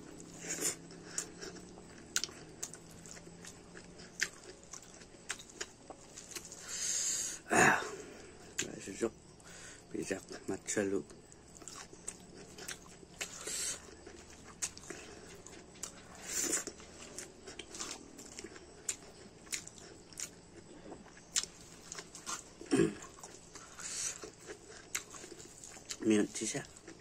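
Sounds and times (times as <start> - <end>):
man chewing food: 0.0 - 27.0.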